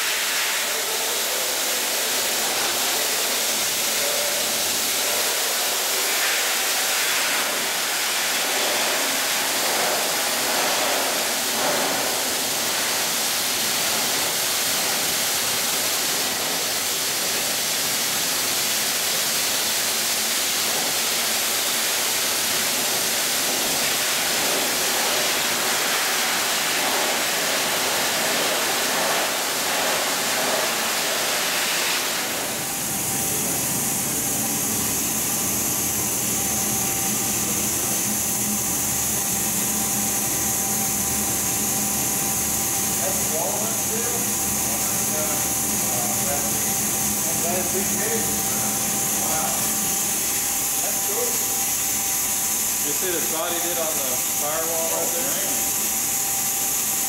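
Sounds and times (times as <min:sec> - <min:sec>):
media-blasting nozzle spraying metal: 0:00.0 - 0:57.0.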